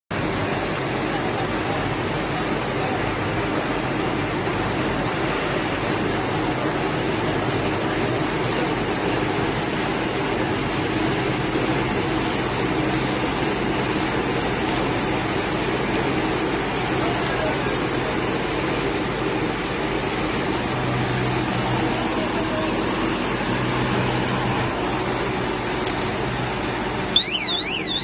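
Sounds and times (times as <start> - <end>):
bale wrapper machine running: 0.2 - 28.0.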